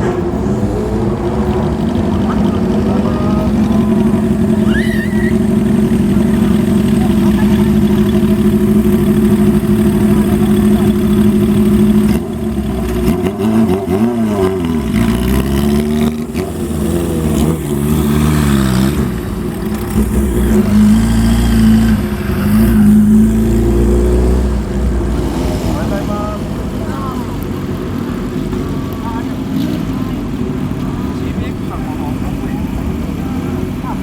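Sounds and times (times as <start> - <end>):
motorcycle engines idling and revving: 0.0 - 34.0.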